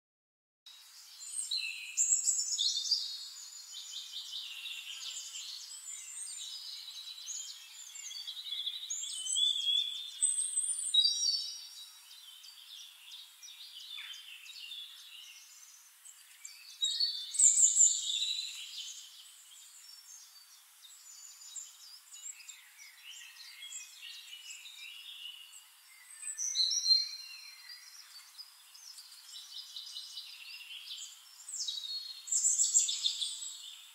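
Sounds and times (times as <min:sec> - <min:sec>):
songbirds singing: 0:00.7 - 0:33.9.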